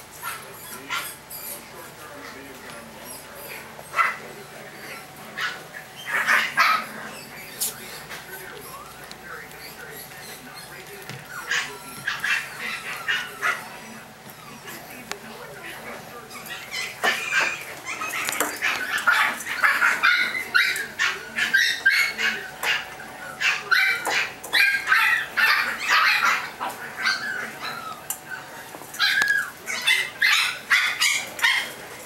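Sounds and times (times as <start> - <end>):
puppies yipping and barking: 0.0 - 32.0.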